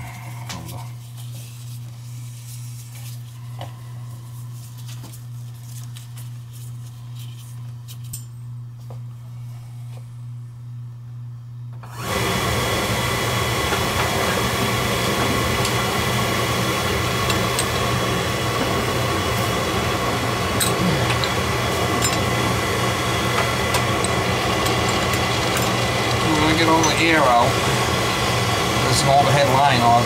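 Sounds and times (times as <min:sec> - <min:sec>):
oil burner running: 0:00.0 - 0:07.7, 0:11.7 - 0:30.0.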